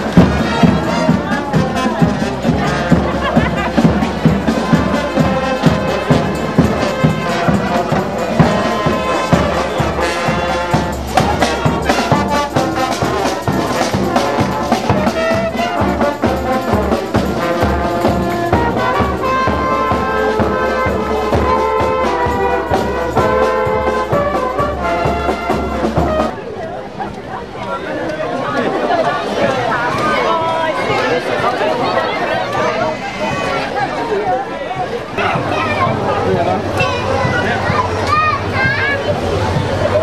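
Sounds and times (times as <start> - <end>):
marching brass band playing: 0.0 - 26.8, 30.0 - 40.0.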